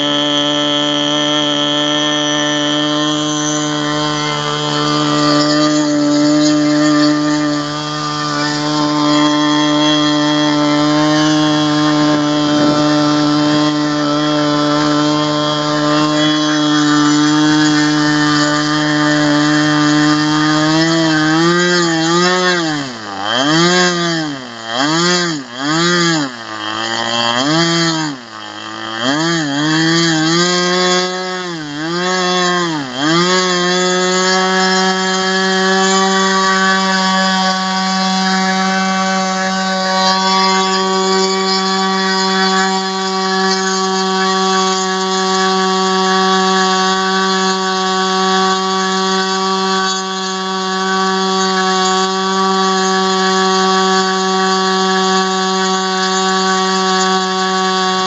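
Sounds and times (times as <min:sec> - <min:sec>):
model engine running at high pitch: 0:00.0 - 0:58.0.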